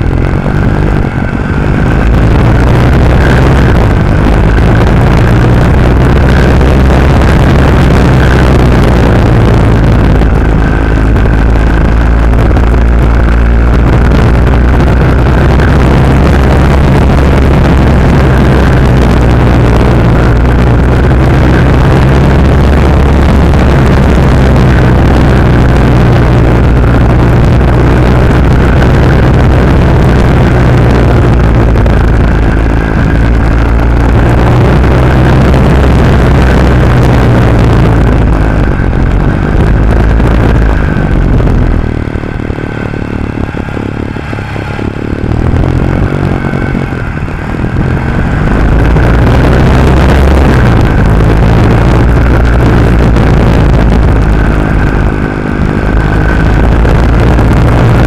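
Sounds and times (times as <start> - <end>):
motorcycle engine and exhaust: 0.0 - 58.0
wind noise: 0.0 - 58.0.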